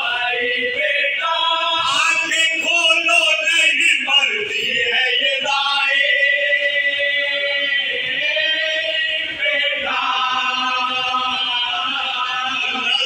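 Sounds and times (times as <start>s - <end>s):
men singing in unison: 0.0s - 13.0s.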